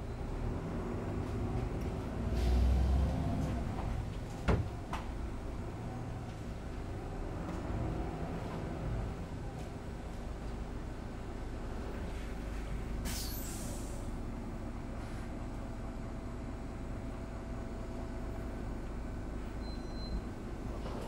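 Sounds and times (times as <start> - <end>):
vehicle rumble from inside: 0.0 - 21.0.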